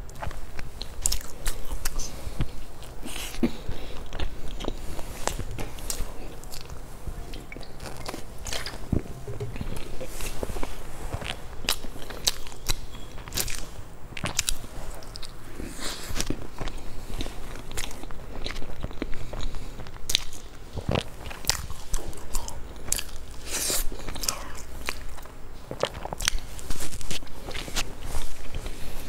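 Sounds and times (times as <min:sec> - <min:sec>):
person chewing crisp pastry: 0:00.0 - 0:29.0.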